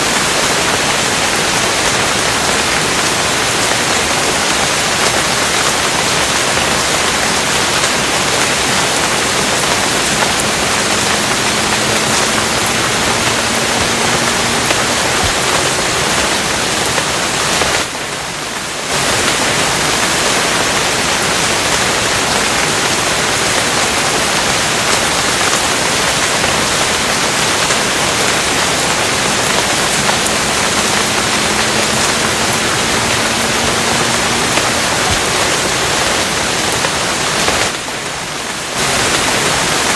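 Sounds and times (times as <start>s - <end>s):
dense rain hiss: 0.0s - 39.9s.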